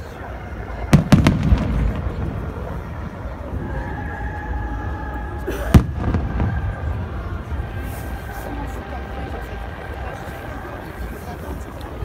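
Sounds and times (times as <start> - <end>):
crowd murmuring: 0.0 - 12.0.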